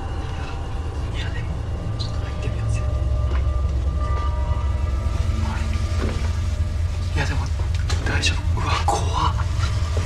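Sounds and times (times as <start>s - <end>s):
ominous low drone: 0.0s - 10.0s.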